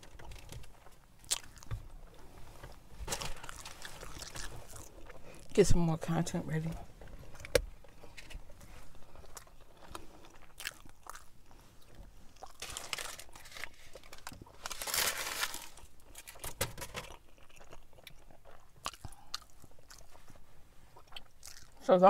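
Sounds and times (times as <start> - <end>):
person chewing food: 0.0 - 5.5, 7.1 - 14.8, 17.0 - 21.8.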